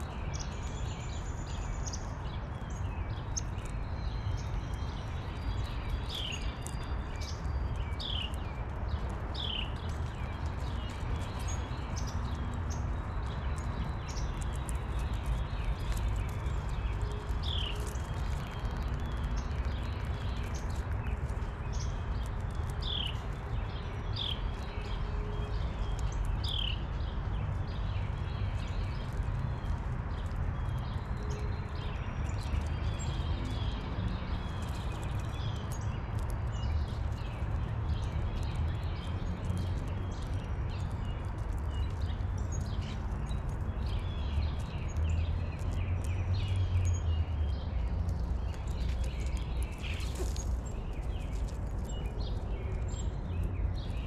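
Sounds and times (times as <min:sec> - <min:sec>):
birds chirping: 0:00.0 - 0:54.0
small ticks and taps: 0:00.4 - 0:54.0.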